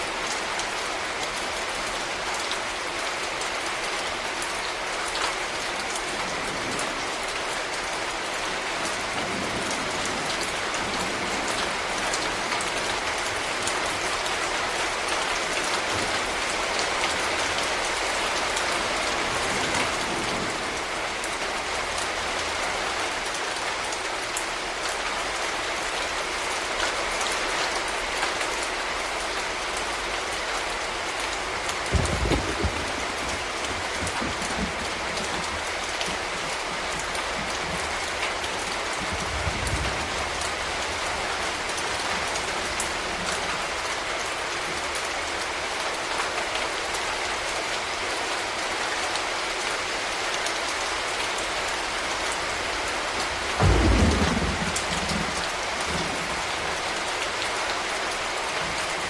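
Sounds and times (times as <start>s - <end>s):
rain on hard surfaces: 0.0s - 59.0s.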